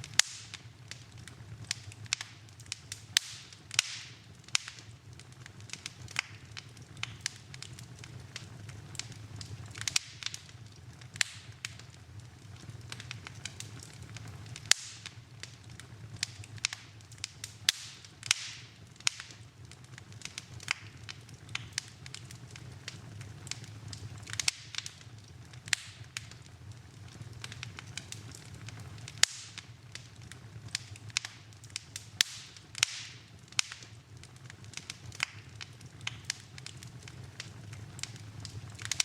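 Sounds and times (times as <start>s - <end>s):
low steady hum: 0.0s - 39.0s
wood fire crackling and popping: 0.0s - 39.0s.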